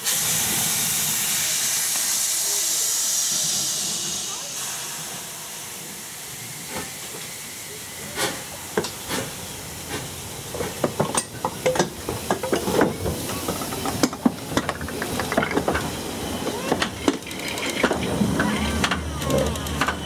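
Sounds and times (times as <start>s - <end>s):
faint hiss of steam: 0.0s - 17.2s.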